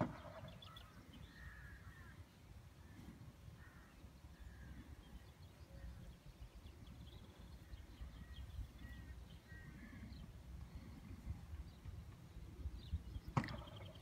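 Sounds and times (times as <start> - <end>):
distant birds chirping: 0.0 - 14.0.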